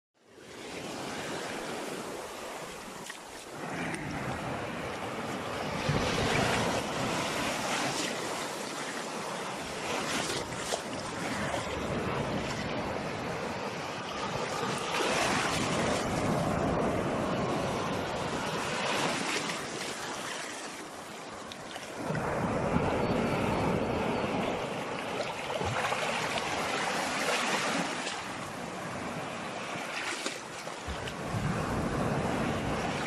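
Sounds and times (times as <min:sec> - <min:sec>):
sea surf washing onto shore: 0:00.4 - 0:33.0.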